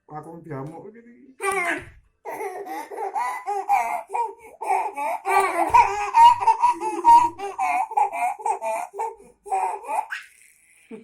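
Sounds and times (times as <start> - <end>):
baby laughing and babbling: 1.4 - 10.5.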